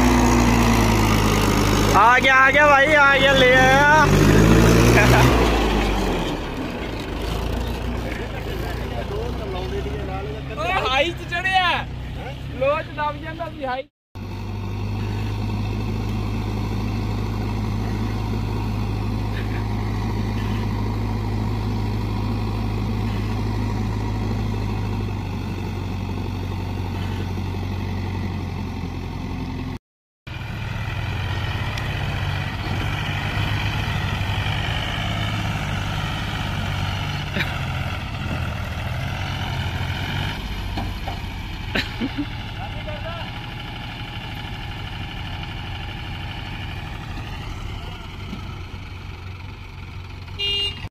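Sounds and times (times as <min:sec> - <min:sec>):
diesel engines running: 0:00.0 - 0:50.9.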